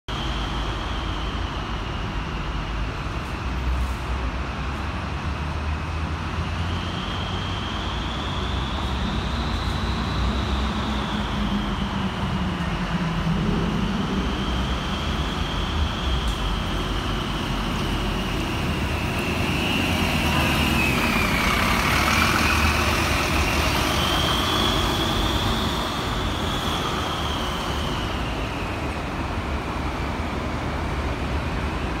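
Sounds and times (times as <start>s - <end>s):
bus engine running: 0.1s - 32.0s
high engine whine: 0.1s - 32.0s
road rumble: 0.1s - 32.0s.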